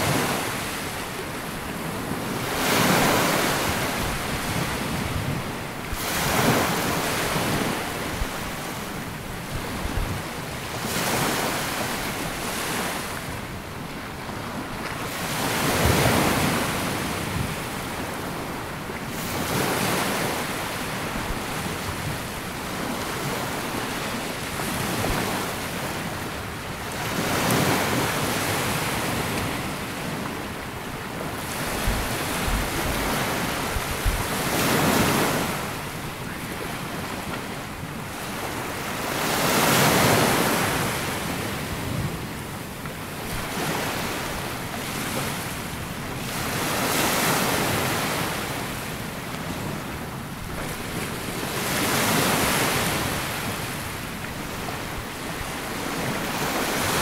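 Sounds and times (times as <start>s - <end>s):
small waves breaking on beach: 0.0s - 57.0s
wind rumbling on microphone: 0.0s - 57.0s.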